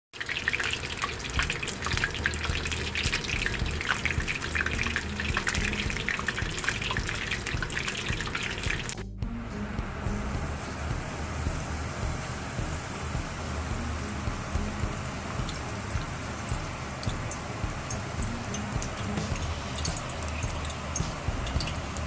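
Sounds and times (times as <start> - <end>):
deep-frying sizzling and crackling: 0.1 - 22.0.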